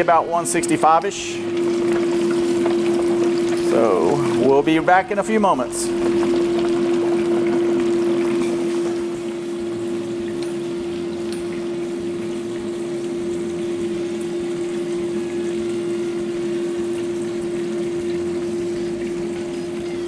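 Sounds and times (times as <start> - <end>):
oil sizzling and bubbling: 0.0 - 20.0.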